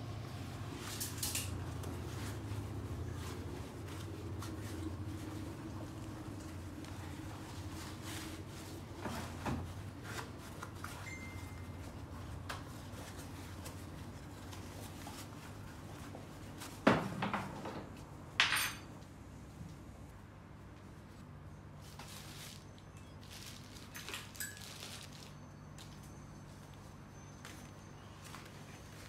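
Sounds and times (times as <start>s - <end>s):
low steady hum: 0.0s - 29.0s
fabric rustling and handling: 0.5s - 16.8s, 21.0s - 29.0s.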